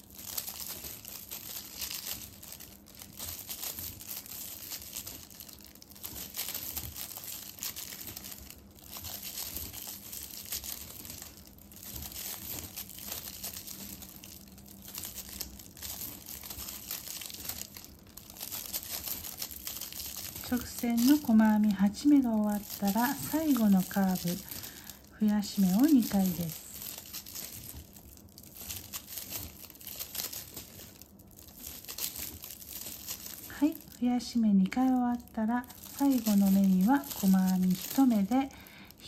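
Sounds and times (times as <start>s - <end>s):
plastic tape crinkling and rustling: 0.0s - 39.0s.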